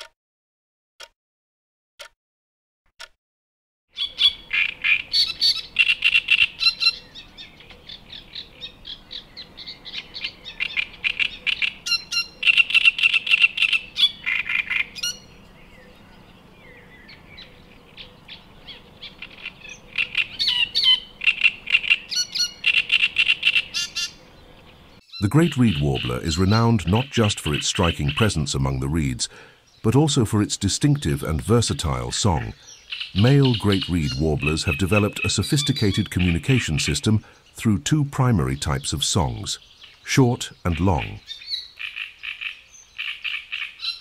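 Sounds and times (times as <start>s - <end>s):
reed warbler singing: 3.9s - 44.0s.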